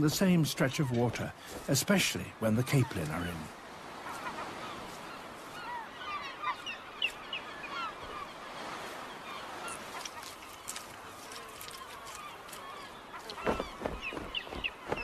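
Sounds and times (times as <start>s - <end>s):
overlapping bird calls: 0.0s - 15.0s.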